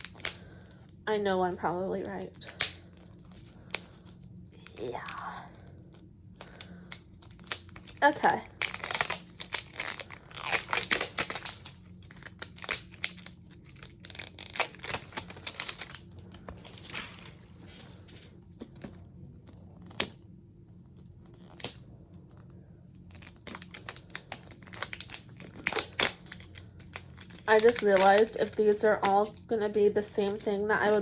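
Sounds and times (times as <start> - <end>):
packaging crinkling and tearing: 0.0 - 0.7, 2.0 - 20.4, 21.2 - 31.0.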